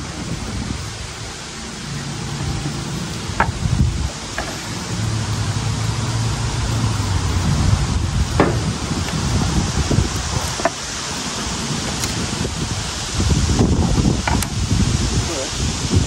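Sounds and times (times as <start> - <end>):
low motor hum: 0.0 - 15.1
water hiss: 0.0 - 16.0
wind hiss: 0.0 - 16.0.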